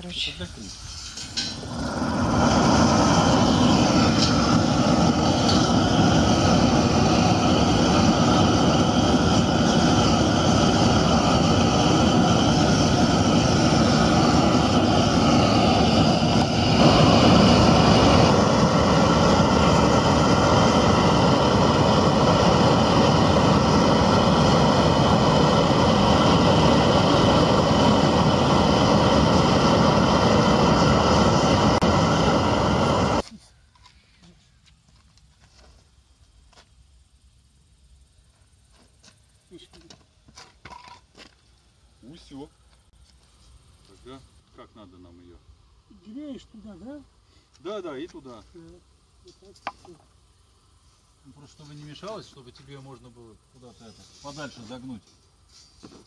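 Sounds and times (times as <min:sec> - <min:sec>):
gas torch hissing: 0:00.0 - 0:33.2, 0:40.5 - 0:56.0.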